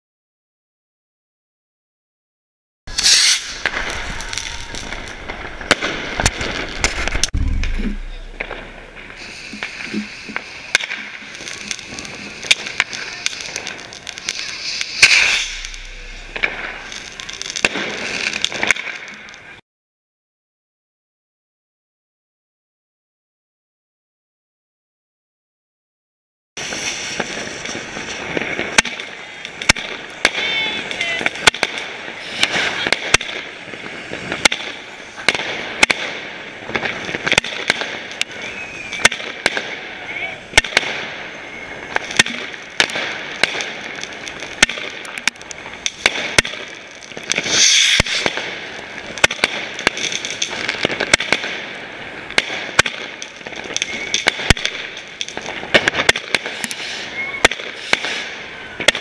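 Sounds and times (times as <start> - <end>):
firework rocket whooshing: 2.9 - 19.2, 26.6 - 59.0
firework fuse hissing: 2.9 - 19.5, 26.6 - 59.0
fireworks cracking: 2.9 - 19.6, 26.6 - 59.0.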